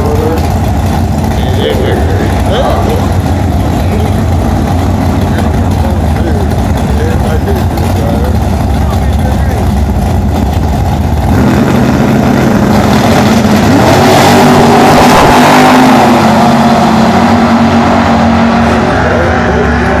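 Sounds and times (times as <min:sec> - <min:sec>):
drag racing cars accelerating: 0:00.0 - 0:20.0.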